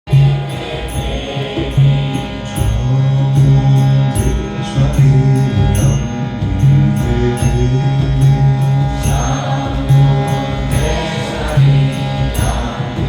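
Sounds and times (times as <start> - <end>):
drum beat: 0.1 - 13.0
hand cymbals striking: 0.1 - 13.0
held drone chords: 0.1 - 13.0.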